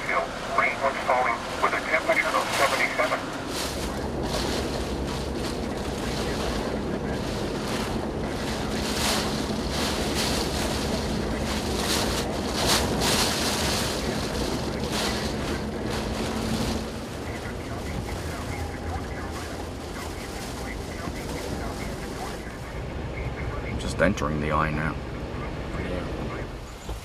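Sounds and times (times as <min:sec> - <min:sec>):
wind and rain buffeting microphone: 0:00.0 - 0:27.0.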